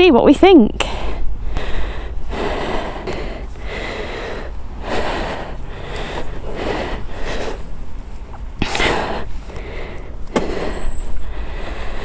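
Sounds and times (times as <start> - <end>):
person breathing: 0.8 - 12.0.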